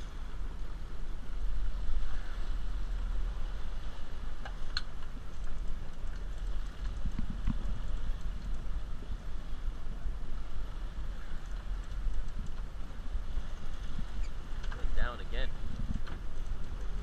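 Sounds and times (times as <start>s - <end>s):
boat engine rumble: 0.0s - 17.0s
water splashing by hull: 0.0s - 17.0s
wind on microphone: 0.0s - 17.0s.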